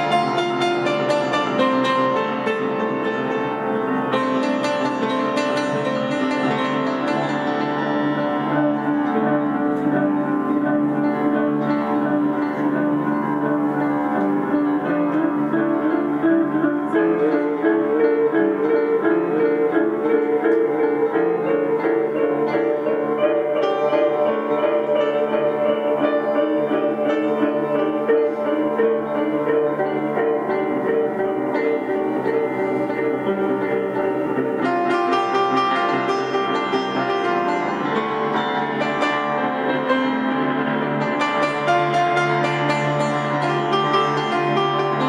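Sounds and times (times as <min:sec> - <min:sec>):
piano chords: 0:00.0 - 0:45.0.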